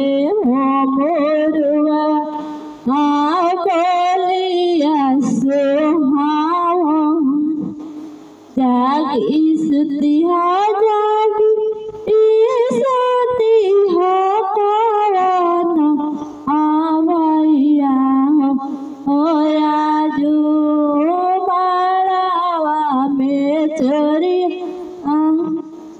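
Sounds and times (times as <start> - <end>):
woman singing unaccompanied: 0.0 - 7.8, 8.5 - 25.9.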